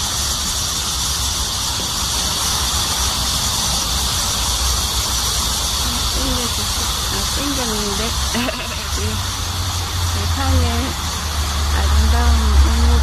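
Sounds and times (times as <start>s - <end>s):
cicadas chorus: 0.0s - 13.0s.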